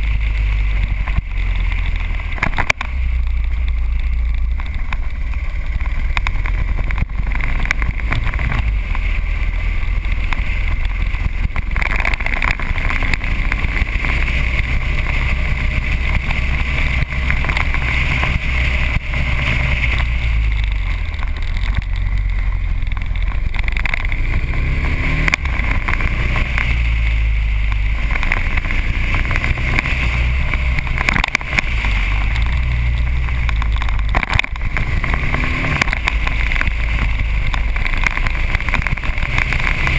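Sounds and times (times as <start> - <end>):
motorcycle engine at road speed: 0.0 - 39.9
wind noise on microphone: 0.0 - 39.9.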